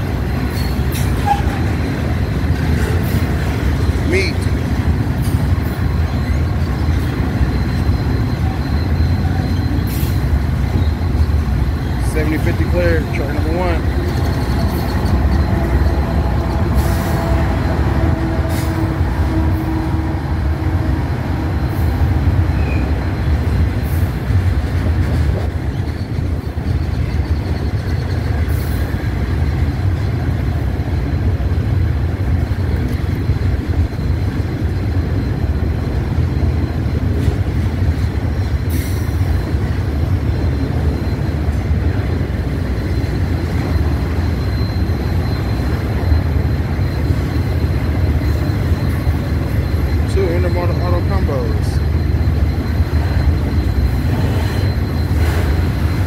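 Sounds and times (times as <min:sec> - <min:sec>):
diesel locomotive engine: 0:00.0 - 0:56.0
sharp clicks of rail cars: 0:00.0 - 0:56.0
train wheels rumbling on rail: 0:00.0 - 0:56.0.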